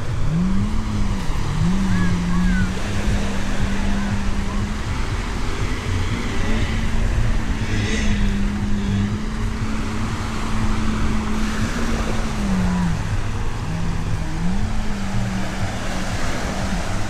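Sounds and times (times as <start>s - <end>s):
engine hum: 0.0s - 17.0s
low rumble: 0.0s - 17.0s.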